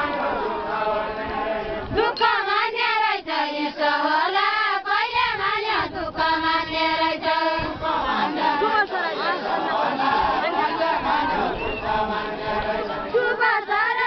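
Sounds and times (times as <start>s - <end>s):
women singing folk song: 0.0s - 14.0s.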